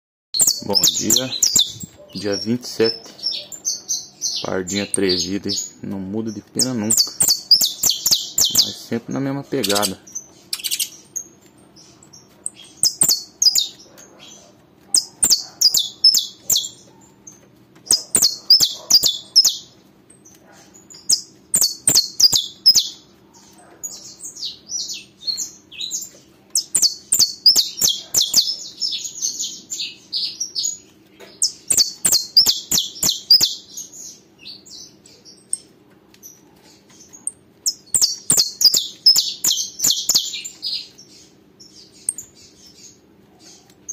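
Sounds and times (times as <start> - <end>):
finch chirping song: 0.4 - 43.9.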